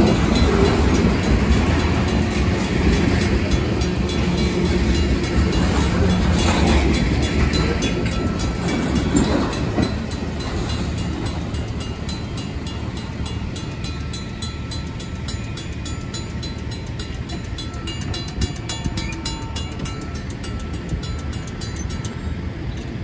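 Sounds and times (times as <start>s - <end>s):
crossing bell ringing: 0.0s - 23.0s
train wheels rumbling: 0.0s - 23.0s.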